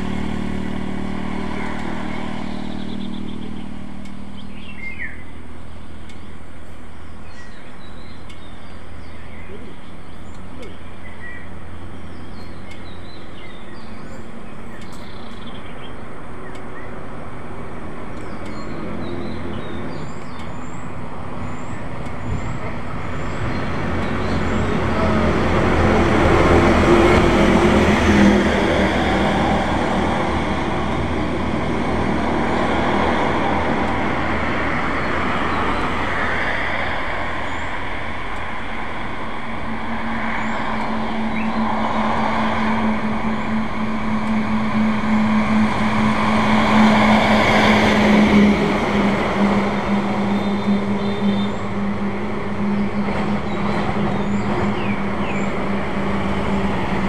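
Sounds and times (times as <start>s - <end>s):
low engine hum: 0.0s - 57.0s
vehicles passing on road: 0.0s - 57.0s.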